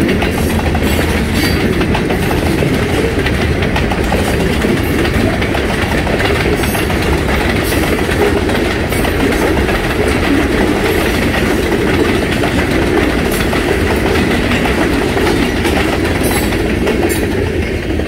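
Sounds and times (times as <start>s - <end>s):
train wheels rumbling on rail: 0.0s - 18.0s
wheels clacking on rail joints: 0.0s - 18.0s.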